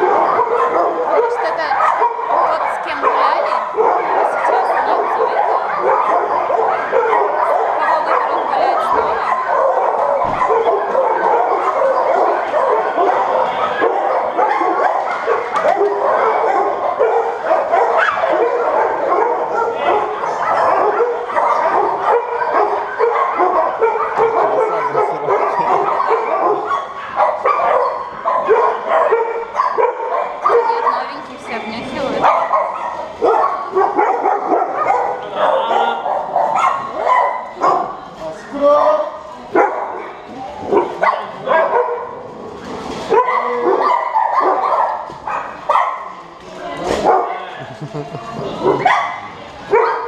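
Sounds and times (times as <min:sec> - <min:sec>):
many dogs barking: 0:00.0 - 0:38.2, 0:38.8 - 0:42.5, 0:43.1 - 0:46.2, 0:47.0 - 0:50.0.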